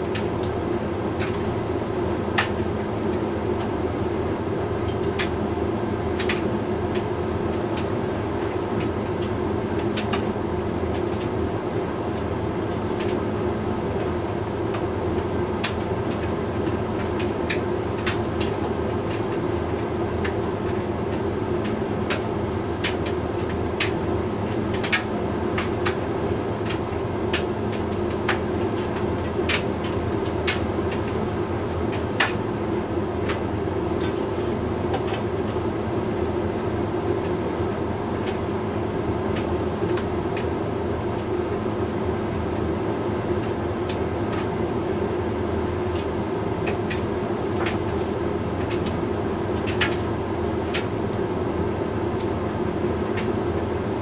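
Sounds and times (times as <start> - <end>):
tumble dryer humming: 0.0 - 54.0.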